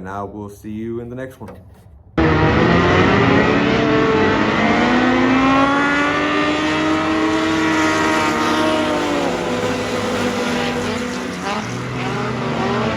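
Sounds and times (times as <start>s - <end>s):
race car engines accelerating: 2.2s - 12.9s.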